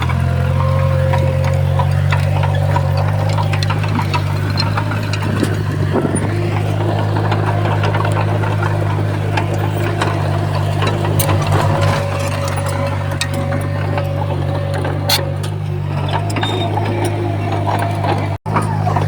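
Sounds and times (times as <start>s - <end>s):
bulldozer diesel engine running: 0.0s - 19.0s
metal clicks and clanks: 0.0s - 19.0s
rattling flutter: 0.0s - 19.0s.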